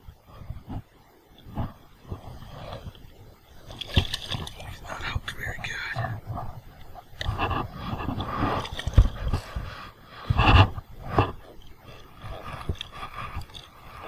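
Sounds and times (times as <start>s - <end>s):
water splashing: 1.3s - 14.0s.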